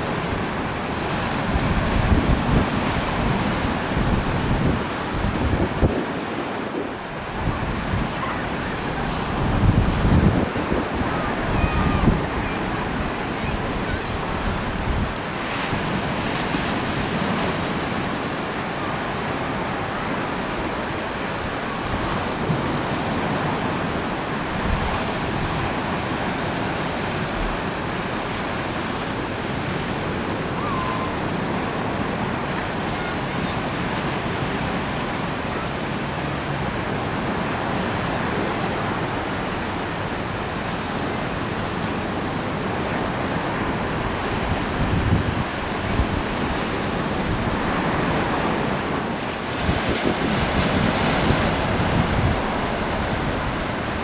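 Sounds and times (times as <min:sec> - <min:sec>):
wind on microphone: 0:00.0 - 0:35.4, 0:38.1 - 0:54.0
choppy river water: 0:00.0 - 0:54.0.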